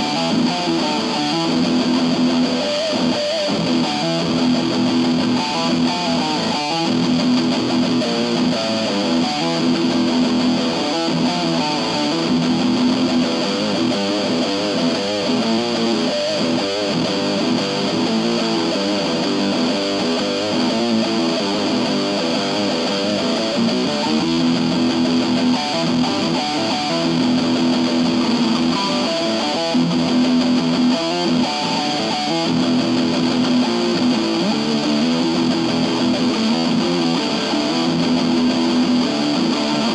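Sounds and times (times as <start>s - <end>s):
electric guitar playing: 0.0s - 39.9s.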